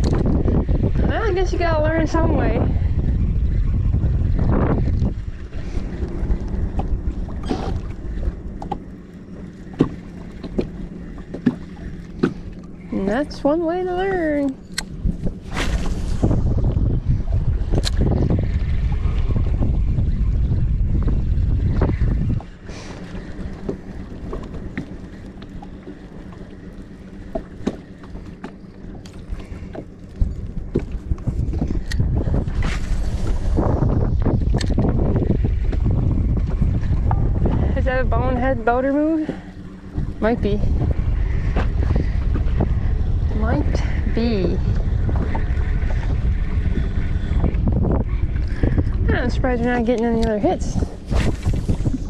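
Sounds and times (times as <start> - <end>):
waves slapping boat hull: 0.0 - 52.0
wind rumbling on microphone: 0.0 - 52.0.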